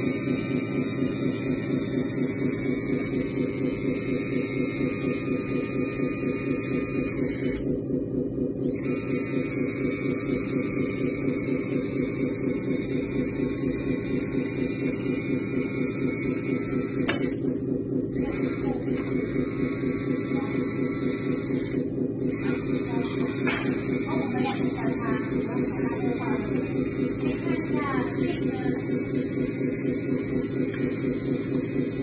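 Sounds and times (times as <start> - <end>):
hydraulic pump whine: 0.0 - 32.0.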